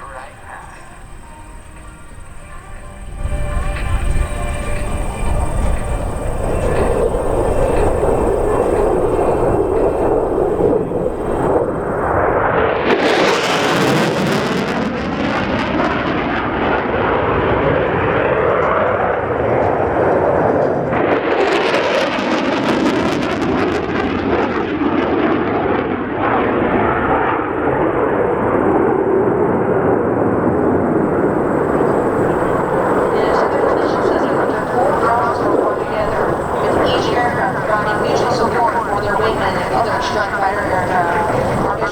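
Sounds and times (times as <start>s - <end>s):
jet engine roar: 0.0s - 41.9s.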